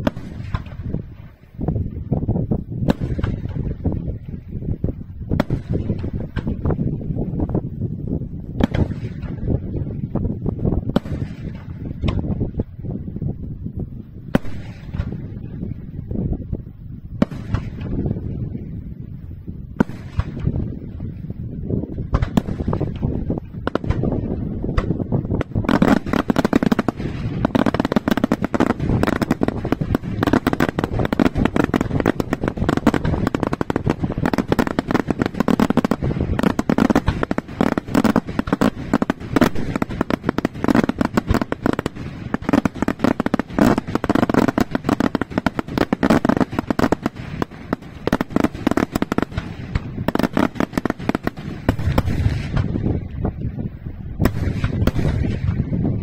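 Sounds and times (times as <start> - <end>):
fireworks bangs: 0.0 - 7.7, 8.3 - 13.4, 14.2 - 16.5, 17.1 - 18.8, 19.7 - 56.0
fireworks crackling: 0.0 - 56.0.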